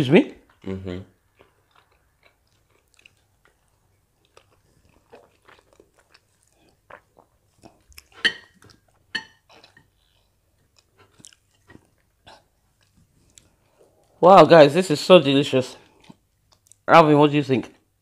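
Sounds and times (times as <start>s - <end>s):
people chewing wetly: 0.4s - 14.2s, 15.8s - 16.9s.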